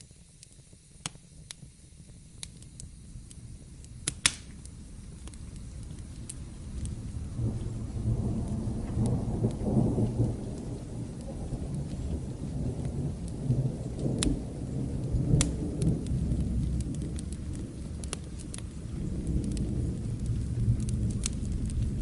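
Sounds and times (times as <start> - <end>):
rain hissing: 0.0 - 22.0
wood fire crackling and popping: 0.0 - 22.0
low rumble of thunder: 2.9 - 22.0.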